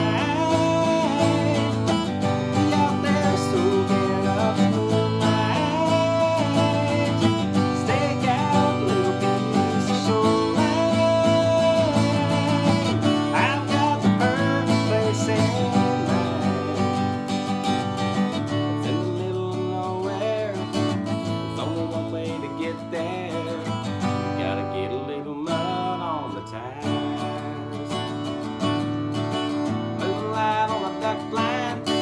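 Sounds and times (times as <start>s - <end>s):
man singing: 0.0s - 28.6s, 29.4s - 32.0s
acoustic guitar strumming: 0.0s - 32.0s.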